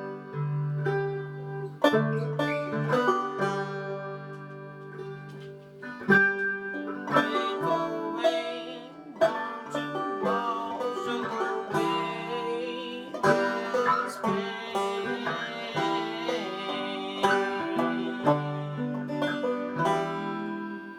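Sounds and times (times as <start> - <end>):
banjo playing folk tune: 0.0 - 20.9.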